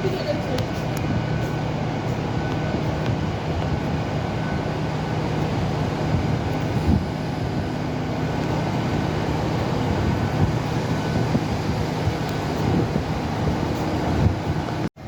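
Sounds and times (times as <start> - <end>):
diesel train engine humming: 0.0 - 15.0.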